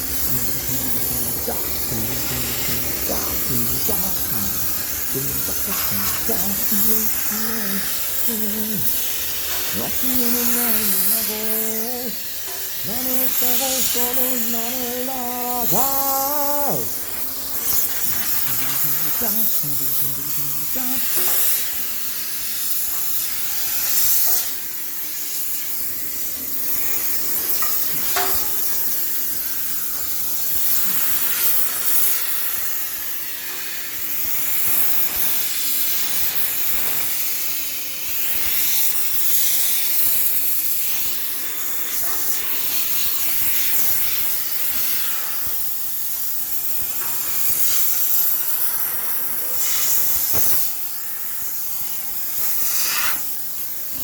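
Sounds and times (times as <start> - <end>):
steam hissing: 0.0 - 54.0.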